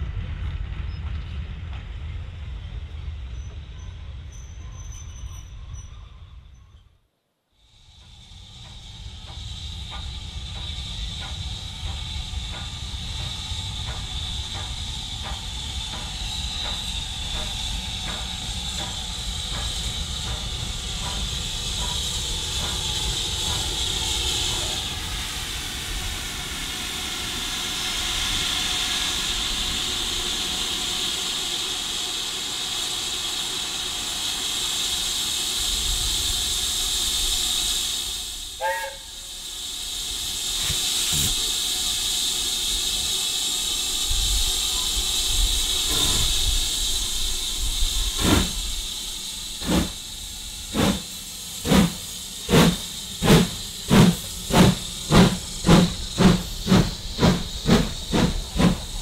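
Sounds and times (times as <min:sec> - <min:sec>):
steam locomotive hissing: 0:07.6 - 0:59.0
diesel train rumble: 0:07.7 - 0:59.0.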